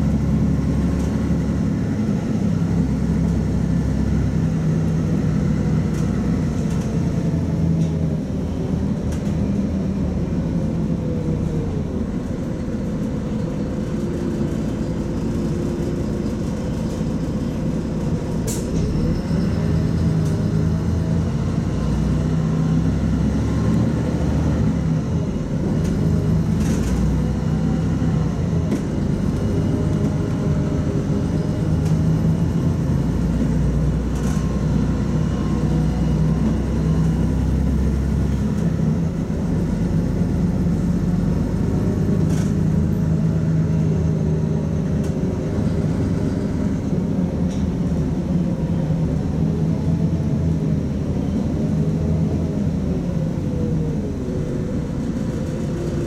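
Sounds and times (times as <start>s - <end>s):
bus diesel engine drone: 0.0s - 56.0s
road rumble: 0.0s - 56.0s.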